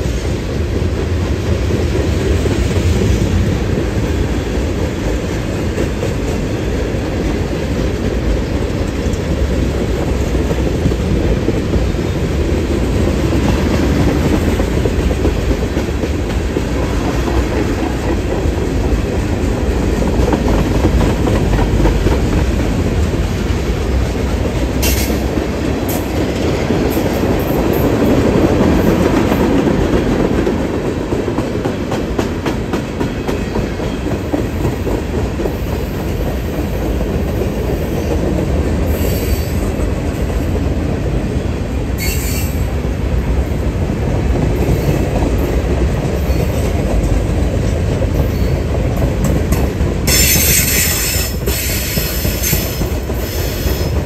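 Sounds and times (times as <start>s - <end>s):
train wheels rumbling over rails: 0.0s - 54.0s.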